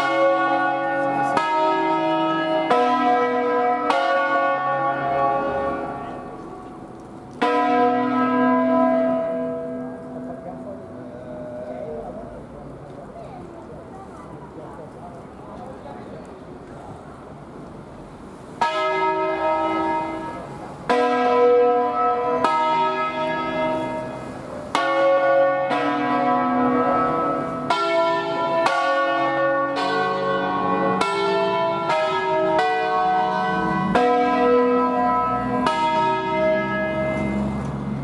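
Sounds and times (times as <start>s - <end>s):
church bells ringing: 0.0s - 12.5s, 18.6s - 38.0s.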